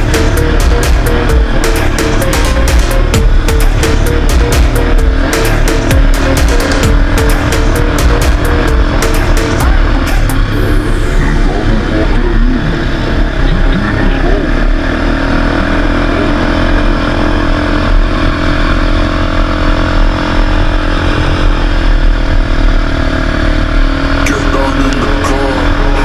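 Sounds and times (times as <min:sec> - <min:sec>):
heavy low rumble: 0:00.0 - 0:26.0
quad bike engine running: 0:00.0 - 0:26.0.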